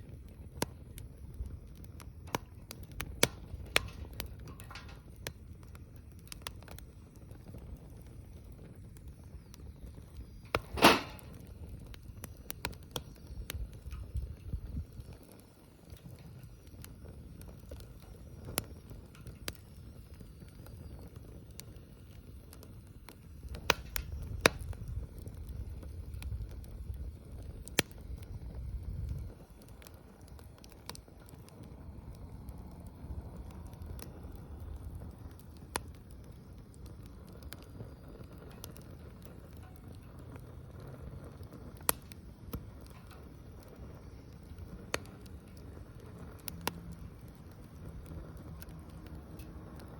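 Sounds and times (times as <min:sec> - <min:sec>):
bonfire crackling and popping: 0:00.0 - 0:49.9
loud snap of fire: 0:00.0 - 0:49.9.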